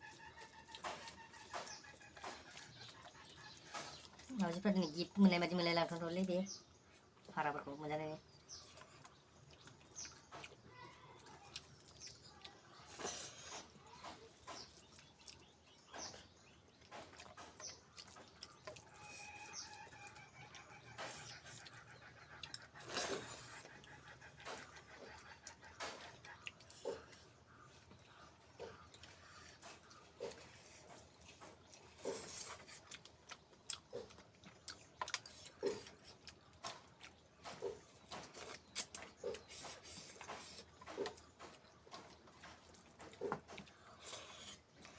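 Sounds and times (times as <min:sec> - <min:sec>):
chewing mouth clicks and lip smacks: 0:08.4 - 0:44.9.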